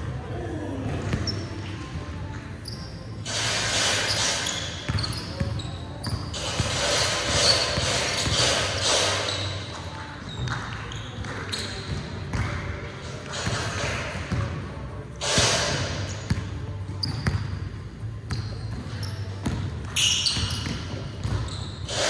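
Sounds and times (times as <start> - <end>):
sneakers squeaking on court: 1.0 - 14.6, 15.2 - 22.0.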